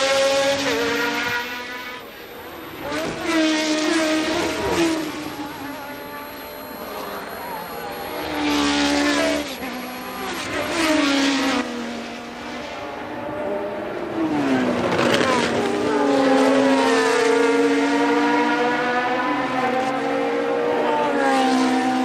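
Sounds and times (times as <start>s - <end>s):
racing cars passing by: 0.0s - 22.0s.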